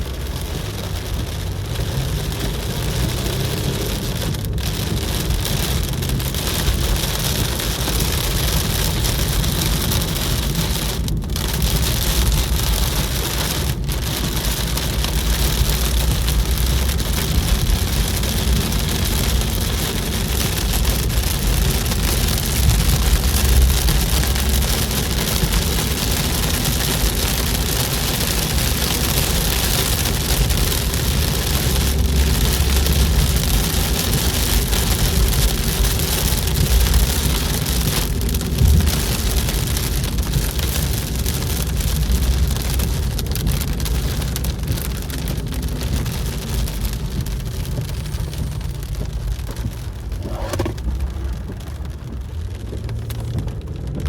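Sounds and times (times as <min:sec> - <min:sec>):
rain hitting car windshield: 0:00.0 - 0:54.0
road and engine noise: 0:00.0 - 0:54.0.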